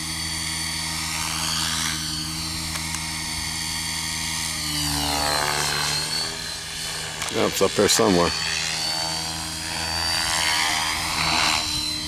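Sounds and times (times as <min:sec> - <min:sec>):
model helicopter rotor whine: 0:00.0 - 0:12.0.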